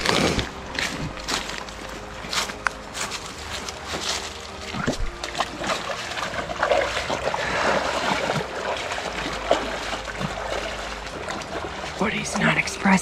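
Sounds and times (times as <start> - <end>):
footsteps splashing through water: 0.0 - 13.0
stream water running: 0.0 - 13.0.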